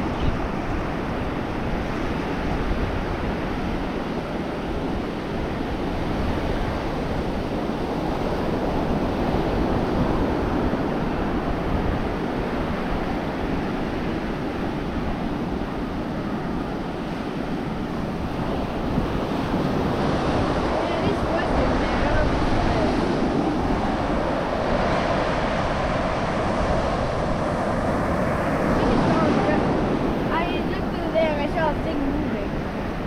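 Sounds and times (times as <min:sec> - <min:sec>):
ocean surf breaking: 0:00.0 - 0:33.0
wind rumbling on microphone: 0:00.0 - 0:33.0.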